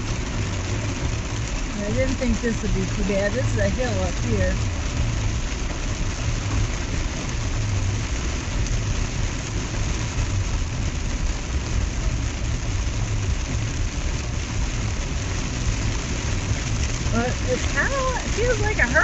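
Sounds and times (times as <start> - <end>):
heavy rain drumming on truck: 0.0 - 19.0
truck engine and tyres rumbling: 0.0 - 19.0.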